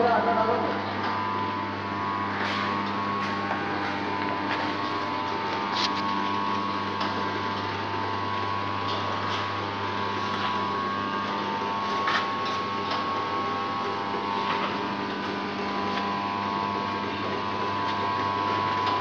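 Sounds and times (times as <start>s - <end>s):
machine motor hum and whine: 0.0s - 19.0s.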